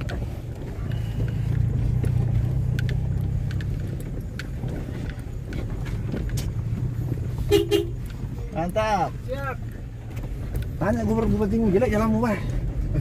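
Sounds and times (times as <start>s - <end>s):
car engine and tyres rumbling: 0.0s - 13.0s
gravel clicks and knocks: 0.0s - 13.0s.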